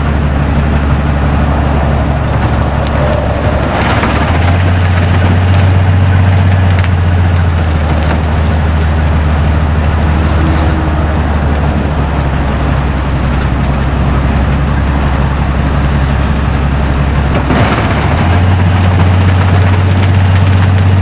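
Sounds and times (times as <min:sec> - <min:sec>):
diesel engine droning under load: 0:00.0 - 0:21.0.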